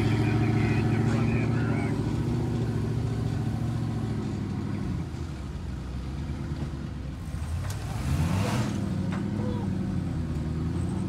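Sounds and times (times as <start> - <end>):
buggy engine idling and revving: 0.0 - 11.0.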